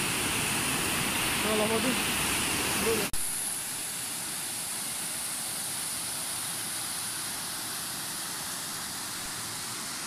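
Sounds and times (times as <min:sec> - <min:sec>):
floodwater rushing over rocks: 0:00.0 - 0:10.0.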